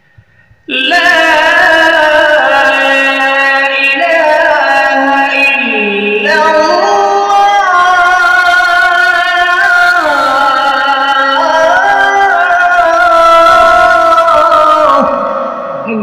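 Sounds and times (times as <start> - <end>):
man chanting melodically: 0.7 - 16.0.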